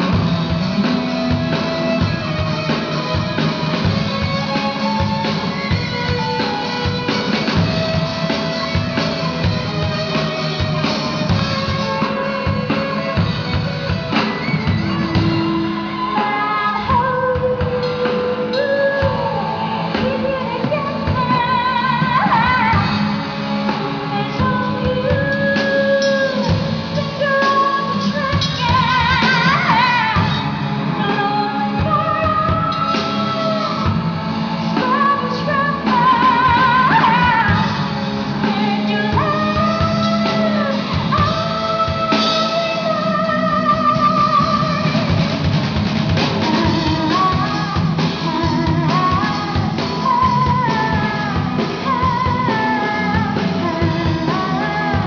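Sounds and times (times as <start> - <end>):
guitar and drums: 0.0 - 55.0
singer with wide vibrato: 0.0 - 55.0.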